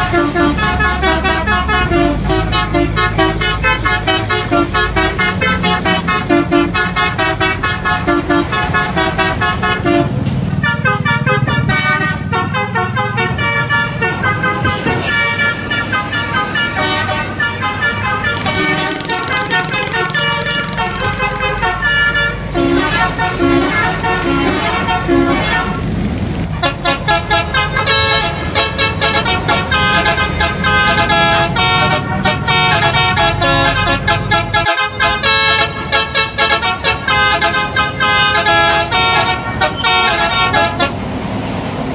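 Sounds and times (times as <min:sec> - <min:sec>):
air horn melody: 0:00.0 - 0:25.9, 0:26.5 - 0:41.0
engine and road rumble: 0:00.0 - 0:41.9.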